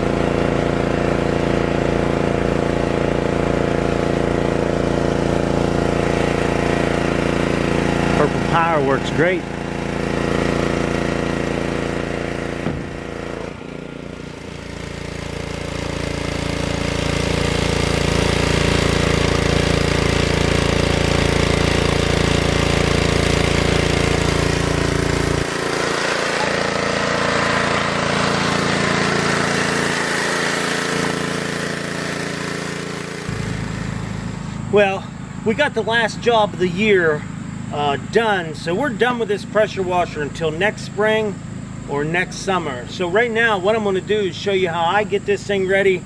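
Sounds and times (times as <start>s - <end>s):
pressure washer engine running: 0.0s - 46.0s.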